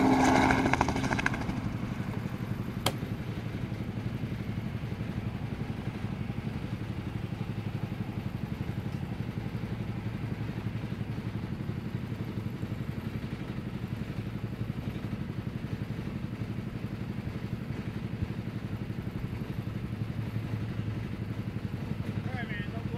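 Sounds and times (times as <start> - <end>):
helicopter throbbing: 0.0 - 22.9.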